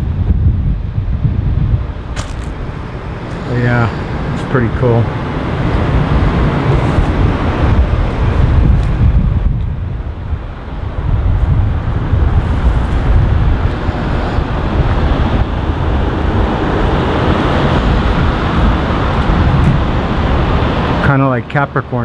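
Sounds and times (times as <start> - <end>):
wind on microphone: 0.0 - 21.1
street traffic: 0.0 - 22.0.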